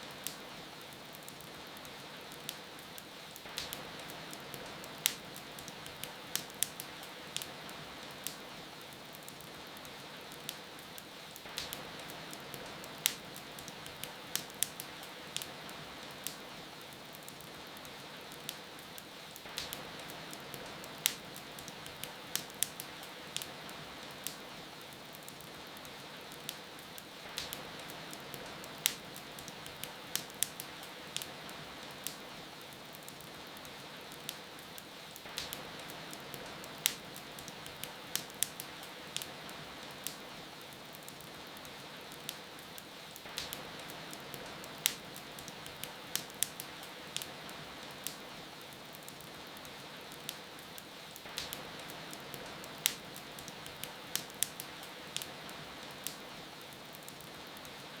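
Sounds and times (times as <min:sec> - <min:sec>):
falling rain: 0:00.0 - 0:58.0
wood fire crackling: 0:00.0 - 0:58.0.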